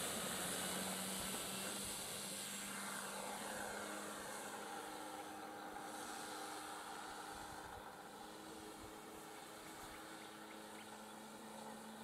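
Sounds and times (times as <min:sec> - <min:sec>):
model plane electric motor drone: 0:00.0 - 0:12.0.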